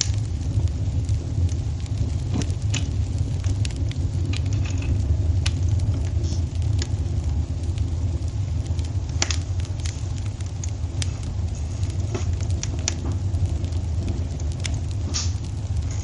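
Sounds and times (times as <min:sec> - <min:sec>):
steady low rumble: 0:00.0 - 0:16.0
wood fire popping: 0:00.0 - 0:16.0.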